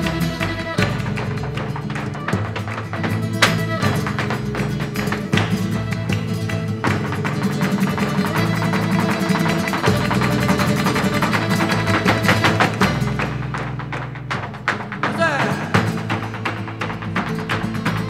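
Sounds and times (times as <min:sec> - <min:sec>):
dancer's footwork strikes: 0:00.0 - 0:18.0
flamenco guitar playing: 0:00.0 - 0:18.0
hand-clapping: 0:00.0 - 0:18.0.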